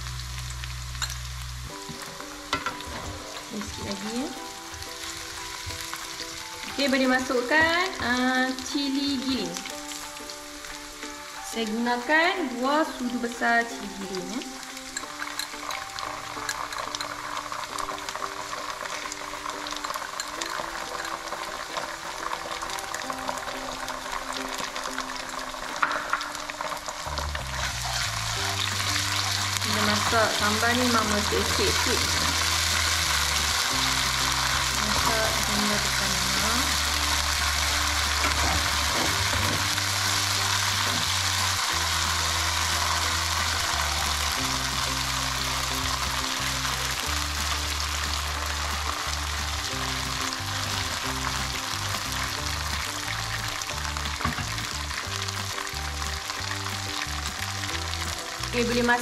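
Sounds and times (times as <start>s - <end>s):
paste sizzling in hot oil: 0.0s - 59.0s.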